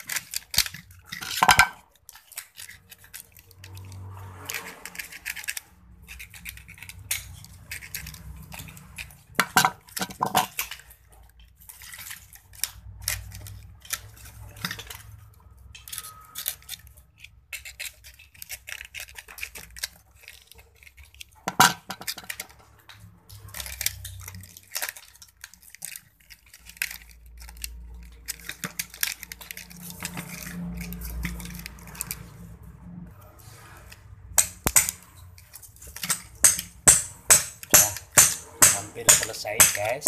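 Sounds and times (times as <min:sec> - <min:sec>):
small metallic clicks and rustles: 0:00.0 - 0:36.9.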